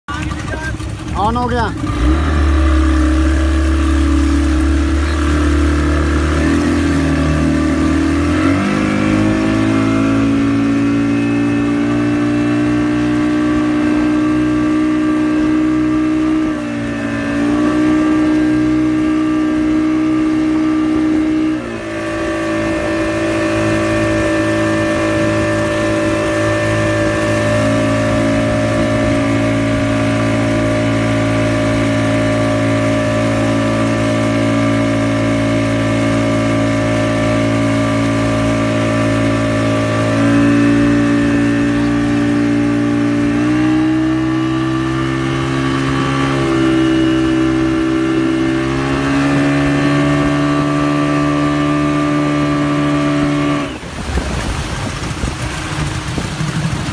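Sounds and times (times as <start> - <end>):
boat engine at high speed: 0.0 - 56.9
water rushing: 0.1 - 56.9.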